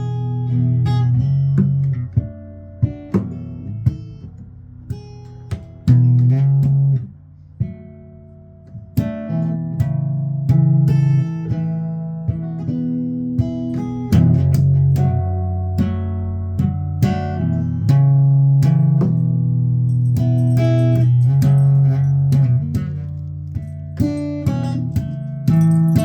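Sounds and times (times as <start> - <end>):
guitar playing: 0.0 - 26.0.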